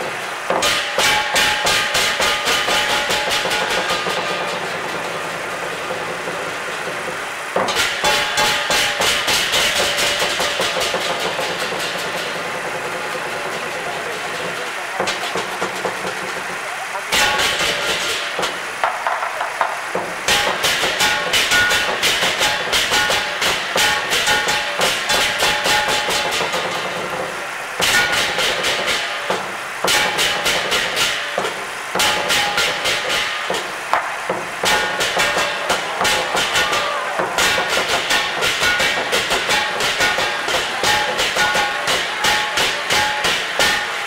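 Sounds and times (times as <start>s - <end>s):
hand cymbals clashing: 0.0s - 16.4s, 17.1s - 44.0s.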